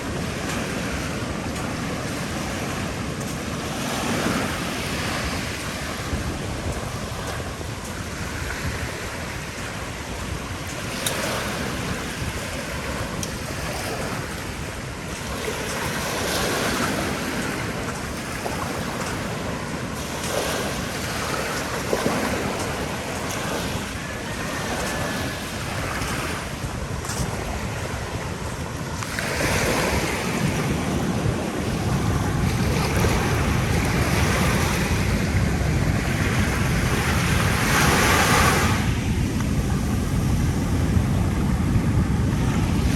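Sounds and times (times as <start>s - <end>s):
ocean waves washing onto beach: 0.0s - 42.9s
wind buffeting microphone: 0.0s - 42.9s.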